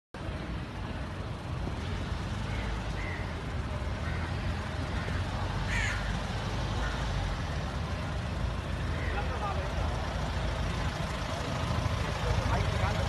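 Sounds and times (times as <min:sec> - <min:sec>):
car engine rumbling: 0:00.2 - 0:13.0.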